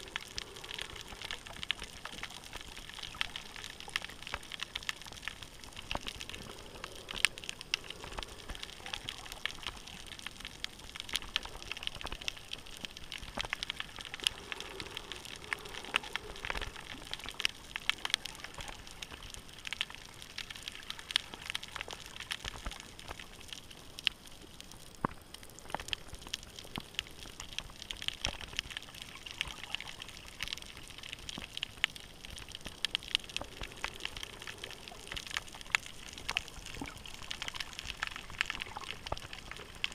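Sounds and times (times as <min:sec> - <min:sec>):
crackle of small sharp clicks: 0:00.0 - 0:39.9
faint water hiss: 0:00.0 - 0:39.9.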